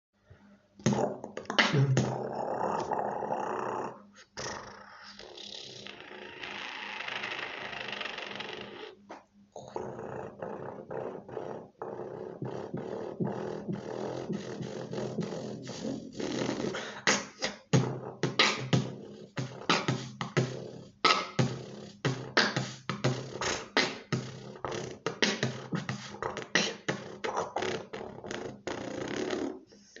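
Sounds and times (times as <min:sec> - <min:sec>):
beatboxing with snore bass: 0:00.8 - 0:30.0.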